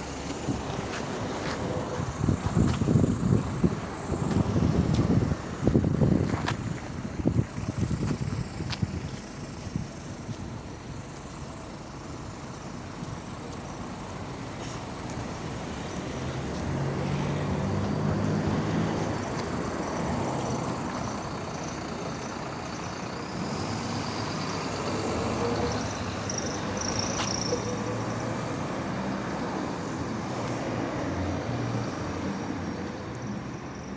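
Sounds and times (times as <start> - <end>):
bus engine: 0.0 - 33.9
road noise: 0.0 - 33.9.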